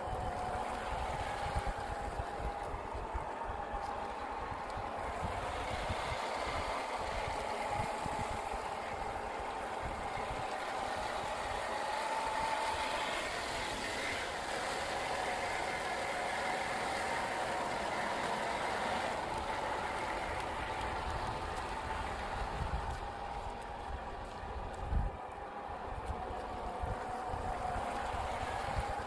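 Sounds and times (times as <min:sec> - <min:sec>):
electric motor and gearbox whining: 0:00.0 - 0:29.0
water splashing around wheels: 0:00.0 - 0:29.0
wind on microphone: 0:00.0 - 0:29.0.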